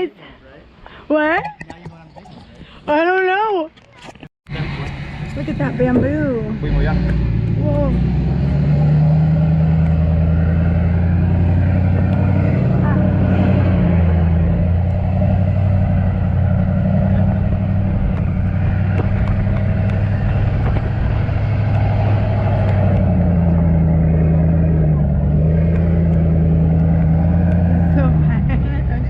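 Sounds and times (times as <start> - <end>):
vehicle engine running: 4.5 - 29.0.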